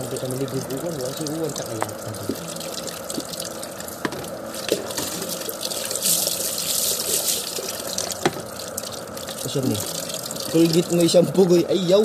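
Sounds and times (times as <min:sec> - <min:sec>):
water dripping and splashing: 0:00.0 - 0:11.5.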